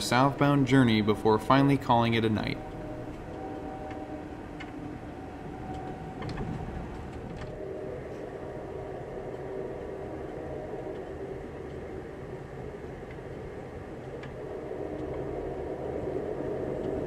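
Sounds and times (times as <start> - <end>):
low hum: 0.0 - 17.0
train rolling rumble: 0.0 - 17.0.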